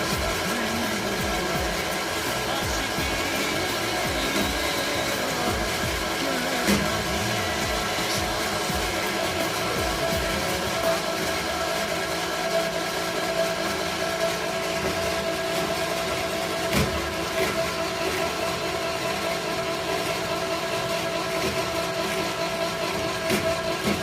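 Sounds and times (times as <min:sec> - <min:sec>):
winch machine hum and whine: 0:00.0 - 0:24.0.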